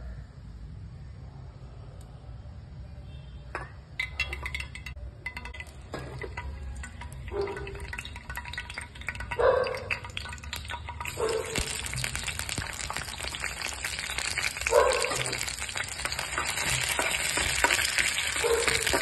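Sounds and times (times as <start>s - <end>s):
oil crackling in a pan: 3.5s - 19.0s
seeds popping in oil: 3.5s - 19.0s.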